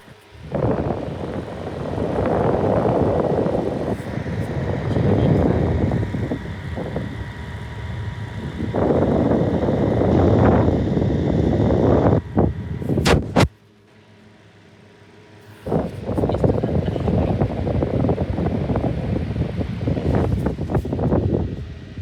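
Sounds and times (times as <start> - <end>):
airflow buffeting microphone: 0.0 - 13.5, 15.6 - 22.0
box fan running: 0.0 - 22.0.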